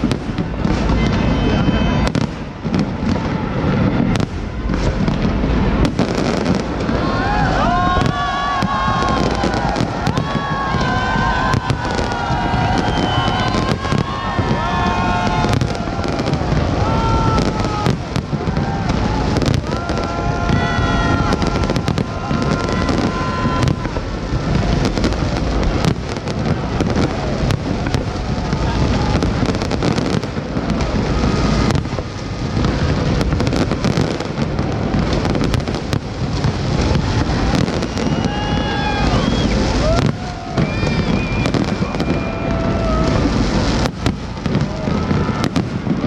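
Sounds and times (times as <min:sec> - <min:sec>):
fireworks bangs and crackling: 0:00.0 - 0:46.0
high fireworks whistles: 0:00.0 - 0:46.0.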